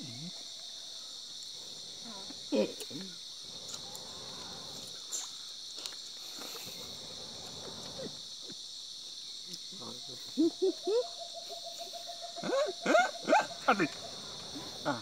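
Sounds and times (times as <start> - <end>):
crickets and insects chorus: 0.0 - 15.0.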